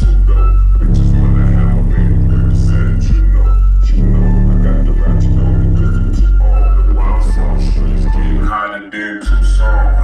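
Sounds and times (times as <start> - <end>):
bass-heavy music in car: 0.0 - 10.0.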